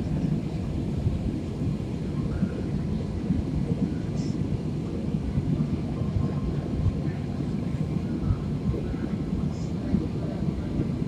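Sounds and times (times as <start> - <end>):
jet cabin engine rush: 0.0 - 11.0.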